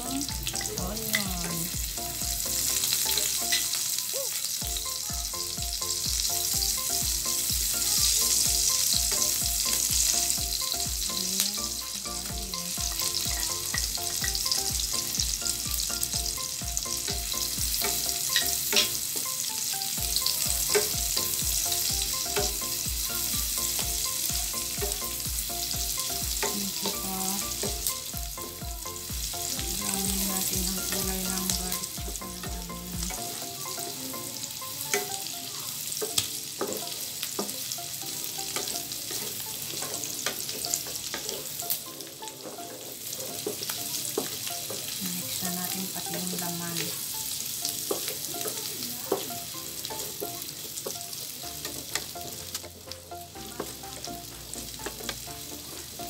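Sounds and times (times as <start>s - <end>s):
onion and garlic sizzling in fat: 0.0s - 56.0s.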